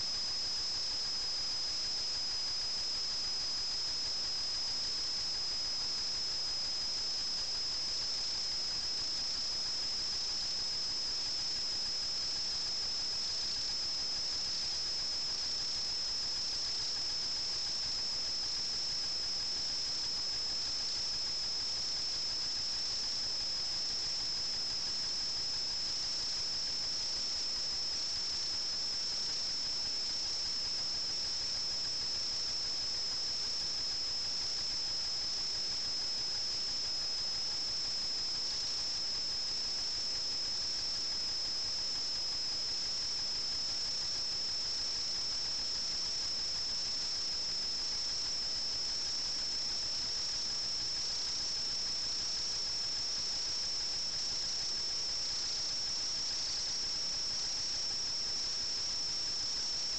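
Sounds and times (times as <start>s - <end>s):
high-pitched electronic whine: 0.0s - 59.9s.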